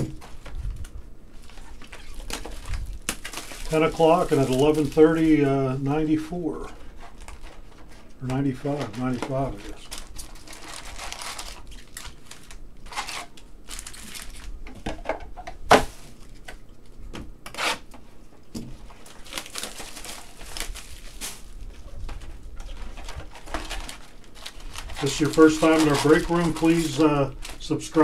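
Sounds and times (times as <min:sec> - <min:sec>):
cardboard and wrapper crinkling: 0:00.0 - 0:14.6, 0:18.8 - 0:28.0.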